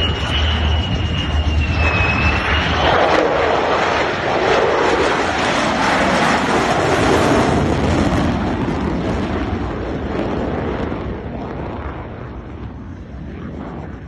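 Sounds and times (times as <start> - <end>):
fighter jet rushing: 0.0 - 14.0.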